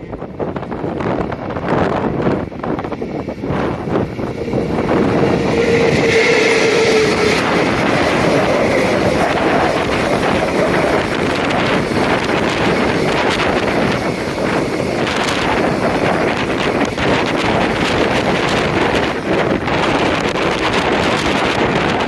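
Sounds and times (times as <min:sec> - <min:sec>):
electric locomotive hauling freight train: 0:00.0 - 0:22.0
wind buffeting microphone: 0:00.0 - 0:22.0.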